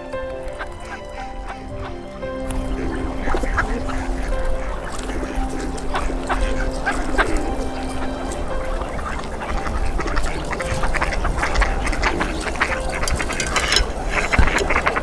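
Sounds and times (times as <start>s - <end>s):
ducks and geese calling: 0.0s - 15.0s.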